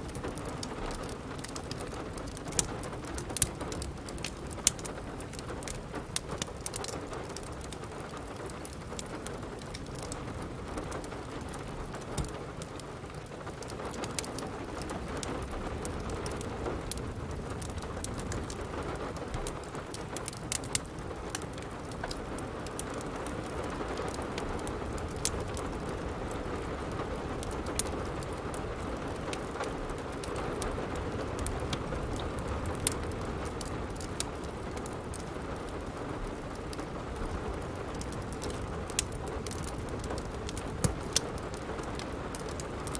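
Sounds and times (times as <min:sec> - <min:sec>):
rain on a roof: 0:00.0 - 0:42.9
wood fire crackling: 0:00.0 - 0:42.9.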